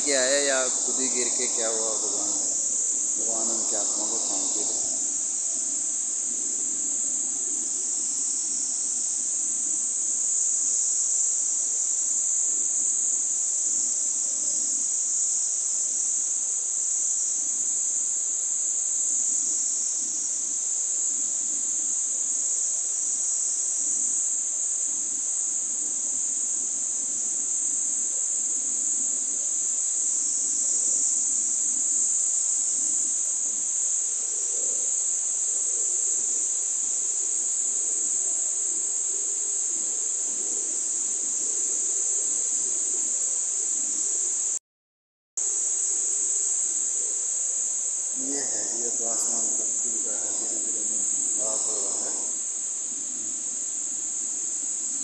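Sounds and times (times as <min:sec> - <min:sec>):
insects droning: 0:00.0 - 0:44.6, 0:45.4 - 0:55.0.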